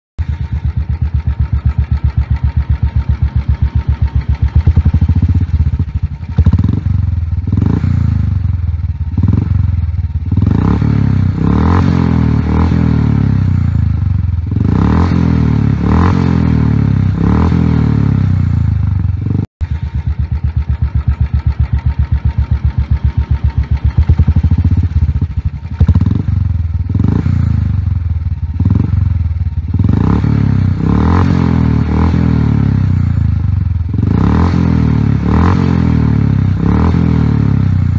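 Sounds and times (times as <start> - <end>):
motorcycle engine idling and revving: 0.2 - 37.9.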